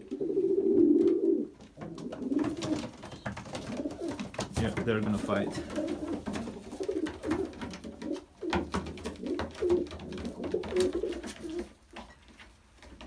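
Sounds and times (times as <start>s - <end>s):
pigeons cooing: 0.0s - 4.4s, 5.6s - 11.8s
pigeons fighting slaps and scuffles: 0.7s - 13.0s.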